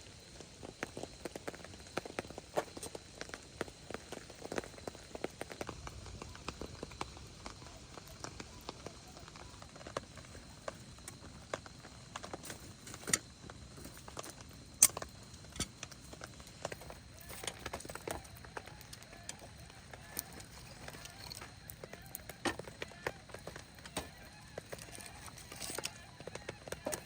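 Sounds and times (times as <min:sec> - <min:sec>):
faint hiss: 0:00.0 - 0:27.0
raindrops pattering: 0:00.0 - 0:27.0.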